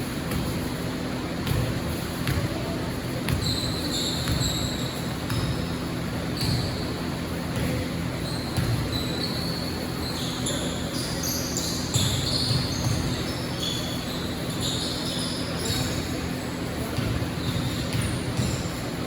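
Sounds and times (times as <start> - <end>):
sneakers squeaking on floor: 0.0 - 19.0
ball bouncing on court: 0.2 - 19.0.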